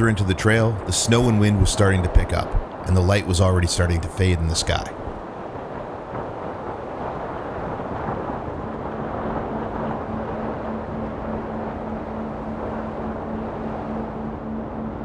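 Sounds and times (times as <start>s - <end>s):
steady drone: 0.0s - 15.0s.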